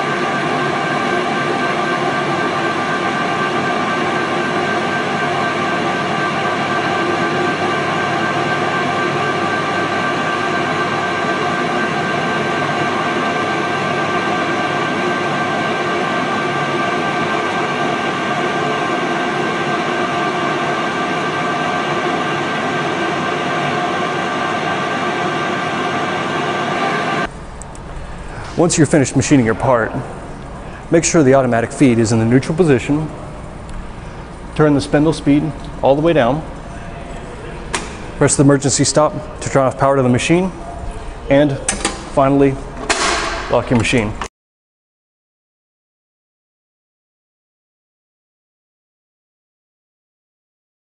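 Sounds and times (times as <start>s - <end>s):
lathe running: 0.0s - 44.2s.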